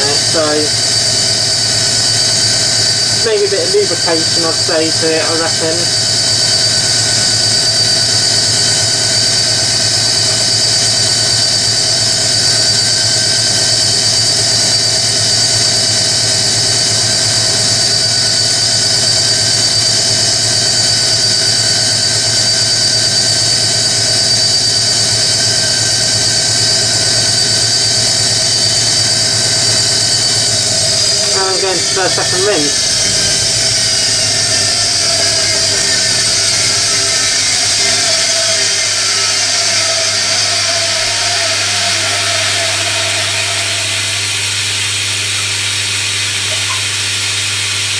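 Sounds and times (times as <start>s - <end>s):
washing machine spinning: 0.0s - 47.9s.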